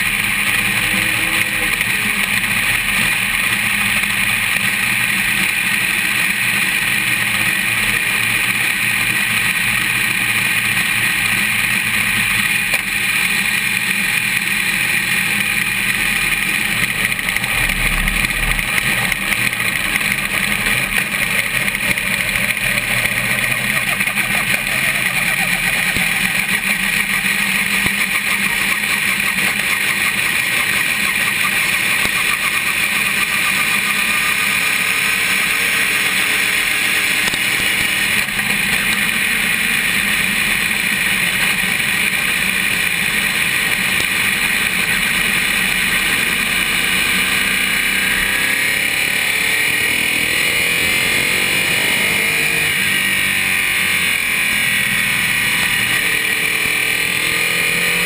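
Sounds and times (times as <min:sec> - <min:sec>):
race car running at speed: 0:00.0 - 0:58.0.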